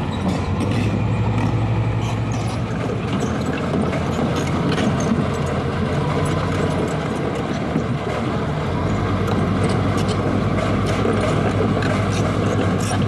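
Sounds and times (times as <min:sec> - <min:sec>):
diesel engine running: 0:00.0 - 0:13.0
light clanks and rattles: 0:00.0 - 0:13.0.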